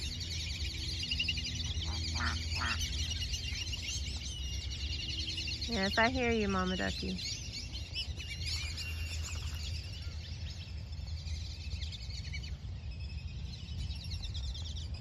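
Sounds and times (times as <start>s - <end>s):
birds chirping and whistling: 0.0s - 15.0s
low steady rumble: 0.0s - 15.0s.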